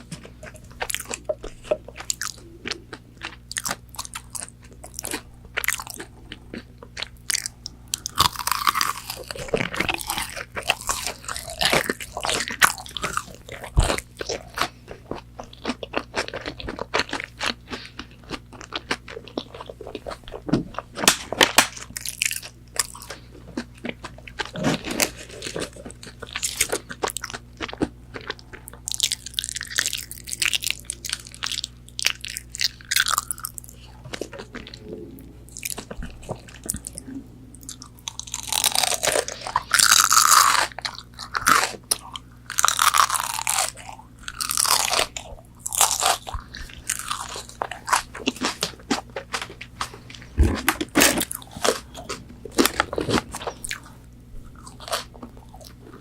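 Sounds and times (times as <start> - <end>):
crunchy chewing of fried food: 0.0 - 56.0.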